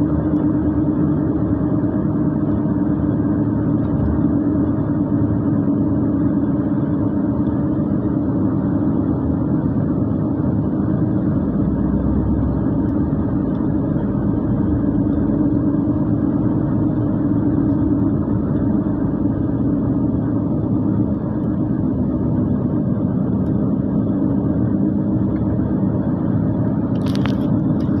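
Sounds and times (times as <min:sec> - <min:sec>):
car engine and tyre hum: 0:00.0 - 0:28.0.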